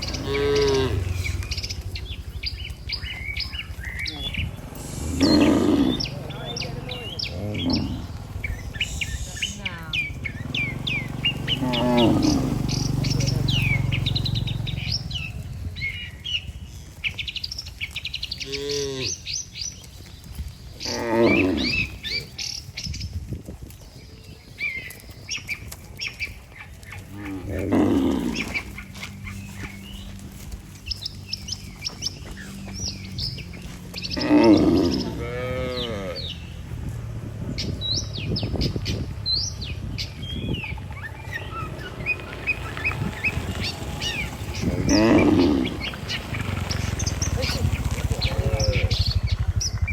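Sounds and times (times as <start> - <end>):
cows mooing: 0.0 - 15.6, 18.3 - 19.4, 20.8 - 22.4, 26.7 - 49.6
small birds twittering: 0.0 - 49.9.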